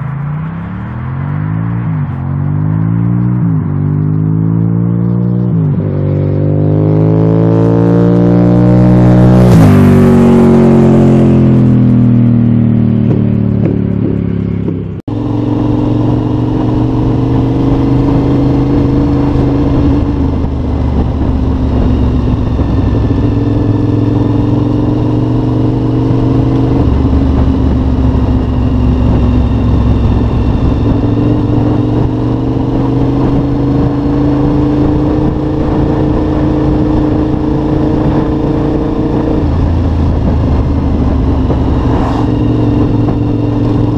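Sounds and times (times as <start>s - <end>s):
motorcycle engine while riding: 0.0s - 43.9s
motorcycle passing at speed: 0.0s - 43.9s.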